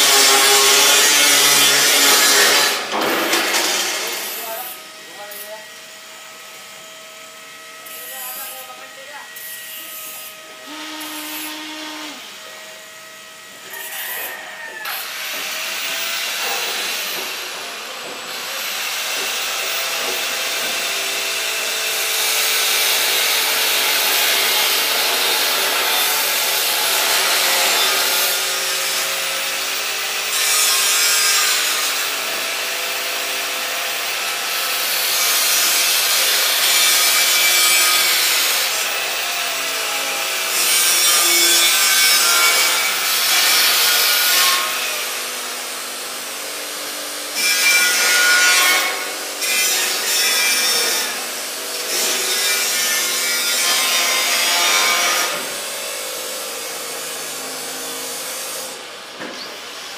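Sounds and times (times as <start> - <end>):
power grinder on steel: 0.0 - 59.9.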